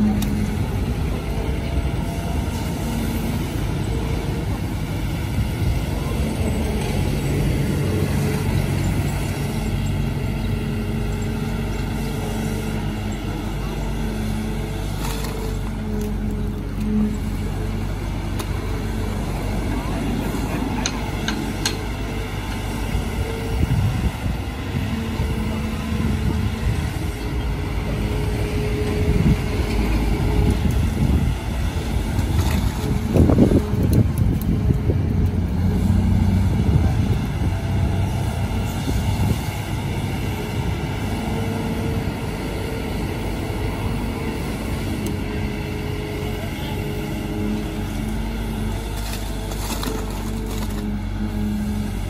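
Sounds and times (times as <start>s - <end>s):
excavator diesel engine under load: 0.0s - 52.0s.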